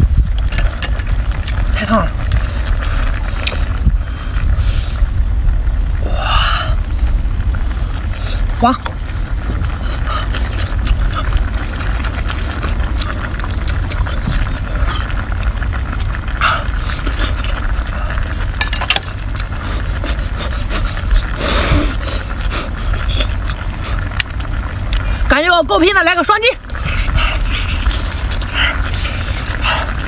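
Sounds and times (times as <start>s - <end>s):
low steady rumble: 0.0s - 30.0s
wet chewing and mouth clicks: 0.3s - 3.8s, 7.9s - 25.2s, 26.6s - 30.0s.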